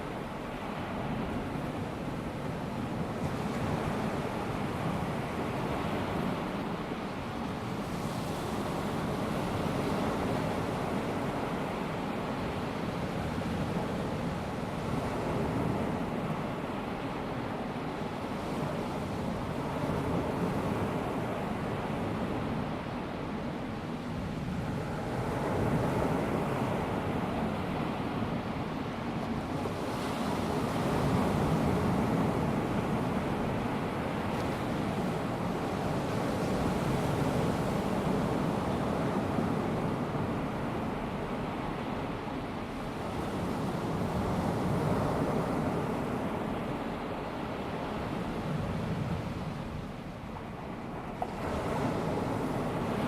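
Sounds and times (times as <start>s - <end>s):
small waves washing onto beach: 0.0s - 53.0s.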